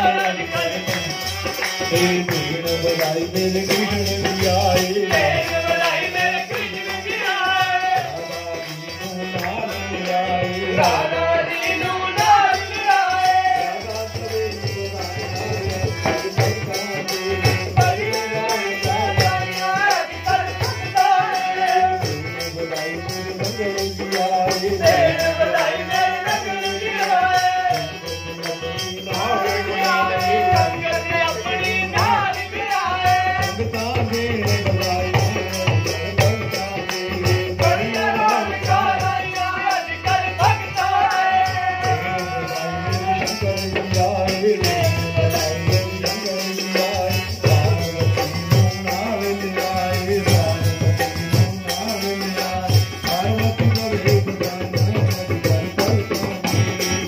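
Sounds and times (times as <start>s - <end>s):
dholak drum: 0.0s - 57.0s
harmonium: 0.0s - 57.0s
tambourine jingling: 0.0s - 57.0s.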